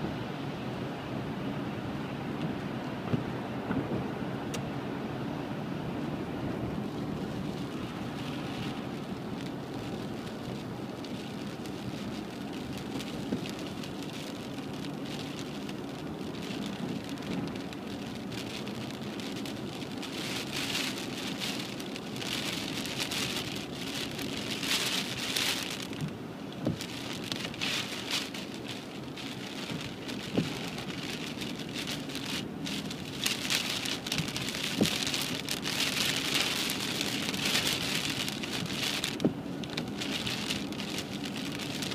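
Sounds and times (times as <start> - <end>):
car driving on wet road: 0.0 - 41.9
rain pattering on a car: 0.0 - 41.9.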